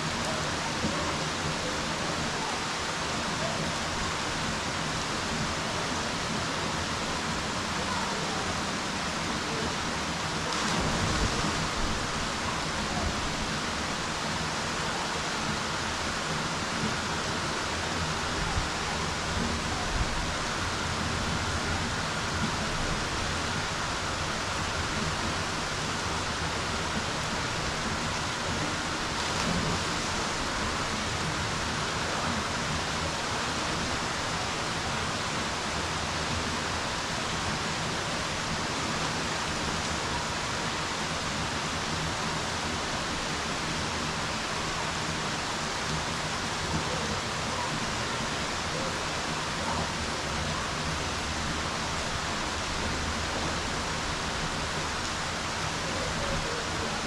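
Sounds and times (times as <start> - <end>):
rain falling on pool water: 0.0 - 57.0.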